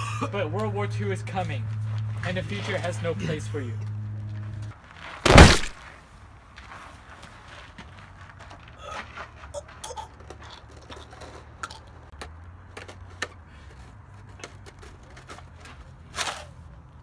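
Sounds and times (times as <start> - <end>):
gravel crunching under body: 0.6 - 16.4.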